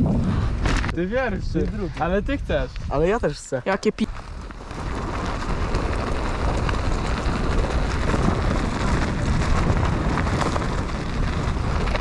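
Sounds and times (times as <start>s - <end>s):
bike tyre roar on matting: 0.0s - 3.2s, 4.1s - 12.0s
wind on microphone: 0.0s - 3.4s, 4.1s - 12.0s.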